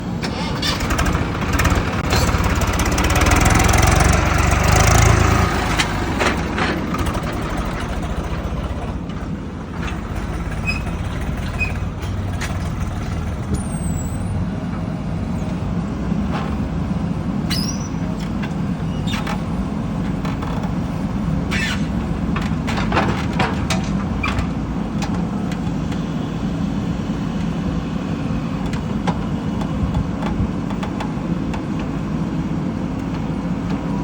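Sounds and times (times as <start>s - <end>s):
diesel engine rumble: 0.0s - 34.0s.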